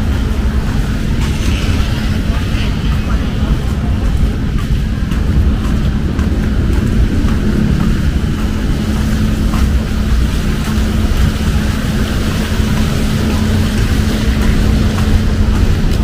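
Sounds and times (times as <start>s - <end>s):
engine hum: 0.0s - 16.0s
rain hissing: 0.0s - 16.0s
road traffic rumble: 0.0s - 16.0s.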